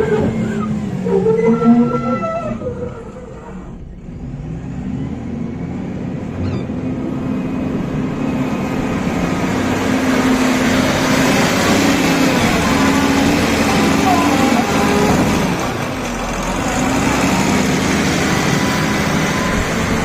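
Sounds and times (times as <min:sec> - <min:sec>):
vehicle engine running: 0:02.6 - 0:20.0.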